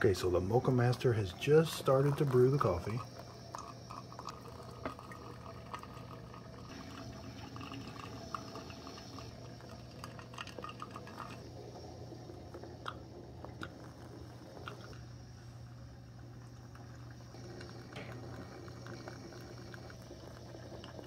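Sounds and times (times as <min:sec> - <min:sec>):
coffee maker water dripping: 0:00.0 - 0:21.0.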